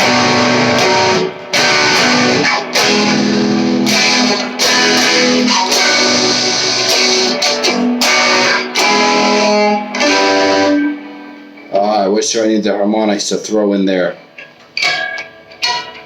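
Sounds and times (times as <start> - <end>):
electric guitar chords: 0.0 - 12.1, 14.1 - 16.0.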